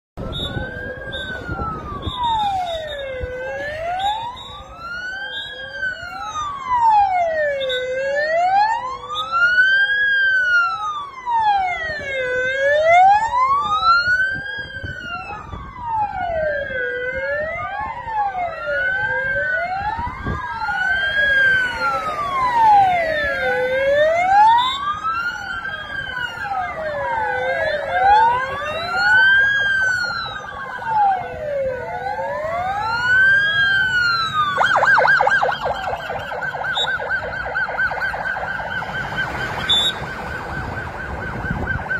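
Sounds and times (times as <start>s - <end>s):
police sirens wailing: 0.2s - 41.9s.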